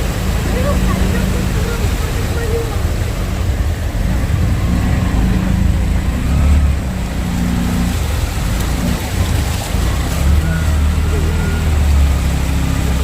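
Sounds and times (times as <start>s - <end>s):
traffic engines rumbling: 0.0s - 13.0s.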